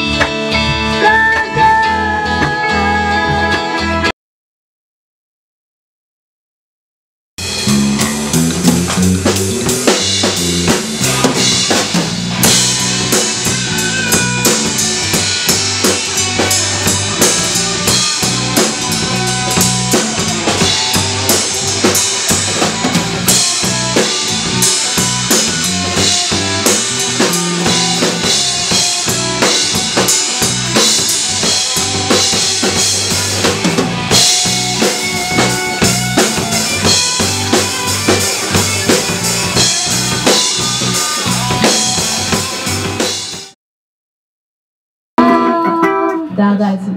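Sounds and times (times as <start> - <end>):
rock band music: 0.0 - 4.1, 7.4 - 43.6, 45.2 - 46.9.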